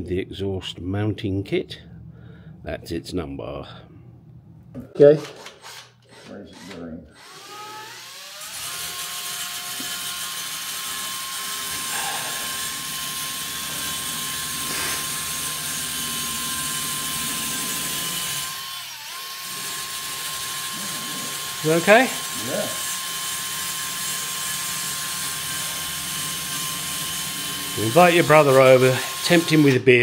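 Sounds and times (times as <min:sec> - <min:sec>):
electric grinder whining: 0:05.6 - 0:29.9.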